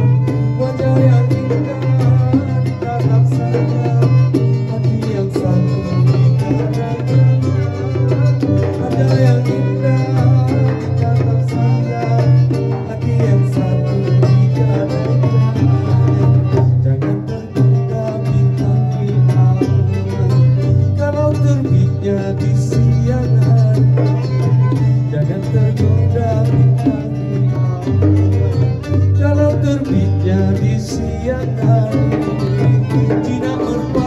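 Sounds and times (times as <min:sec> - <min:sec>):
electric bass line: 0:00.0 - 0:34.0
frame drum: 0:00.0 - 0:34.0
violin: 0:00.0 - 0:34.0.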